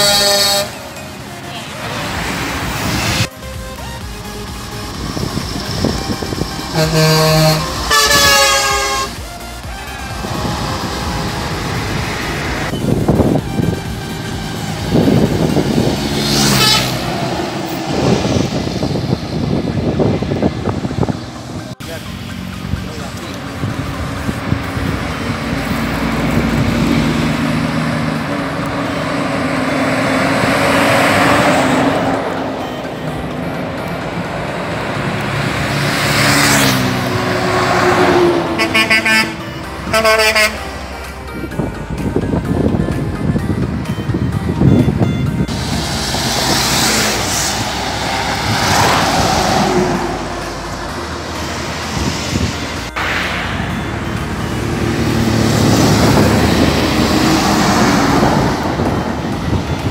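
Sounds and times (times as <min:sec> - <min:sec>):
diesel truck engine: 0:00.0 - 0:59.9
motorcycles passing: 0:00.0 - 0:59.9
tyre and road noise: 0:00.0 - 0:59.9.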